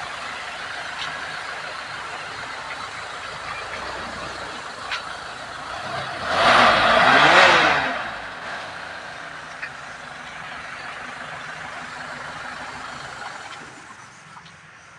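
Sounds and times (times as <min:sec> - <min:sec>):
road noise hum: 0:00.0 - 0:14.9
vehicle engine passing by: 0:00.0 - 0:14.9.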